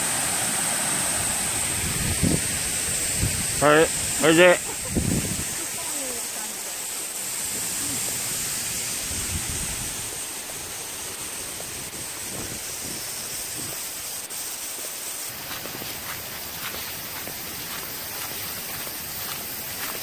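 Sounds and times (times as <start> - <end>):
high hiss: 0.0 - 20.0
stream water rushing: 0.0 - 20.0.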